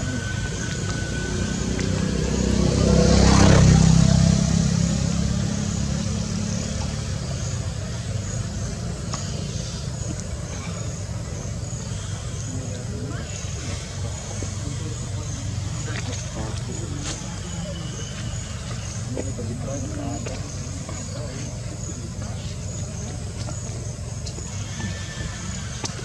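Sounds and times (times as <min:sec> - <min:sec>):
vehicle engine passing by: 0:00.0 - 0:26.0.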